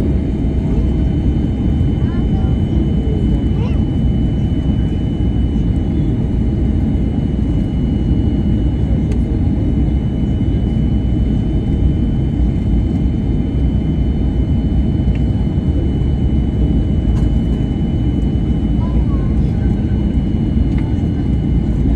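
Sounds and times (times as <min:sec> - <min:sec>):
jet engine rumble: 0:00.0 - 0:21.9.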